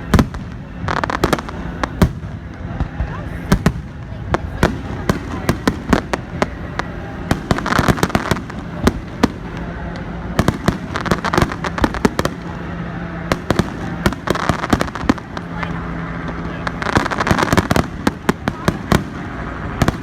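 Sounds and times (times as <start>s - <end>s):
fireworks bangs and pops: 0.0s - 20.0s
fireworks crackling: 0.0s - 20.0s.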